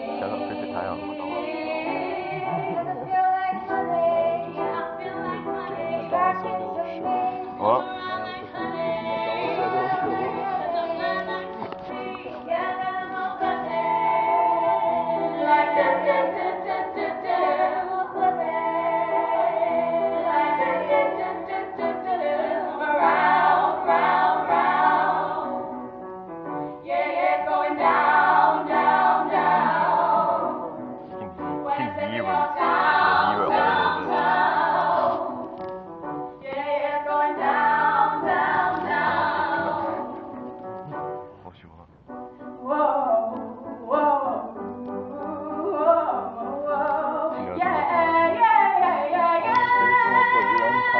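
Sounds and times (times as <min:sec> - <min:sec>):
girls singing together: 0:00.0 - 0:25.7, 0:26.8 - 0:30.8, 0:31.6 - 0:35.5, 0:36.4 - 0:40.3, 0:45.2 - 0:50.9.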